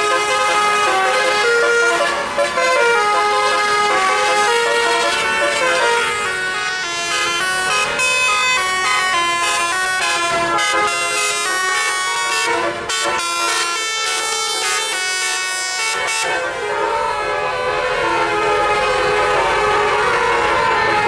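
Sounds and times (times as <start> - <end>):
bus air horn playing a tune: 0.0 - 21.0.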